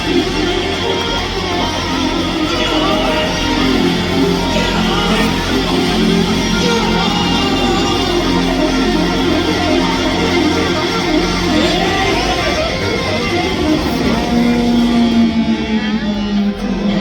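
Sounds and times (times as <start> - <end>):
electric guitar strumming: 0.0 - 16.5.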